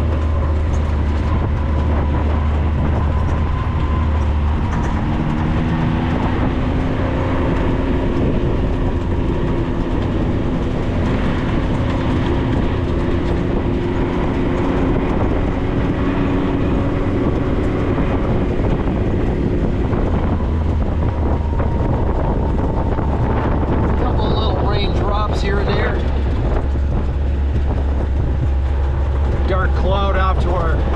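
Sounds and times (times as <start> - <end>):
chassis rattling on rough ground: 0.0 - 30.9
off-road vehicle engine running: 0.0 - 30.9.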